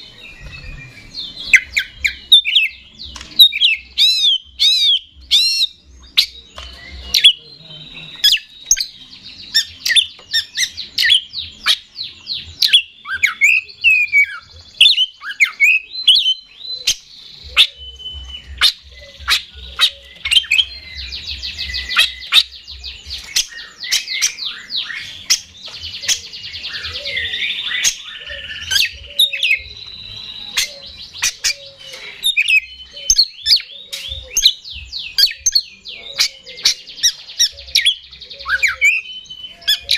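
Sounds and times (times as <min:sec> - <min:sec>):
bird singing whistled phrases: 0:03.4 - 0:11.8, 0:12.4 - 0:39.9.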